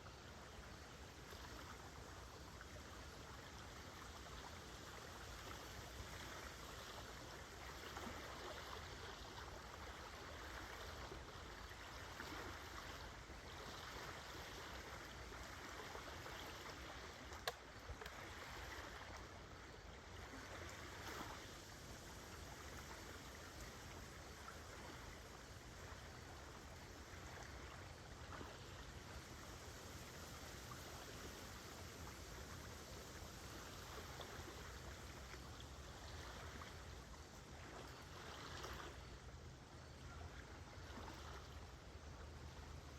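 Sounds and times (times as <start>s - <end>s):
lake waves lapping at shore: 0.0s - 42.9s.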